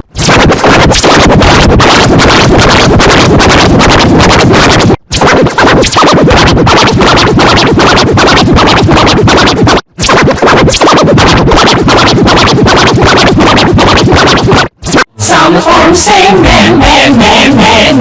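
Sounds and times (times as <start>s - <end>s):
distorted electronic music: 0.0s - 18.0s
scratch-like effects: 0.0s - 18.0s.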